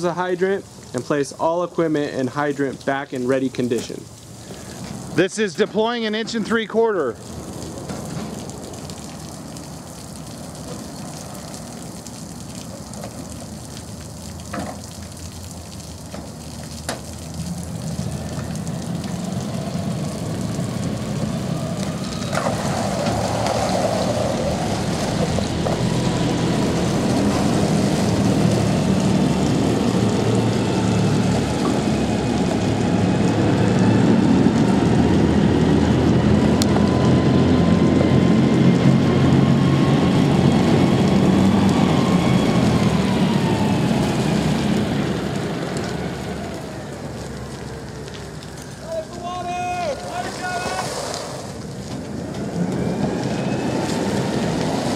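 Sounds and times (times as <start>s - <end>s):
fire engine pump running: 0.0s - 54.9s.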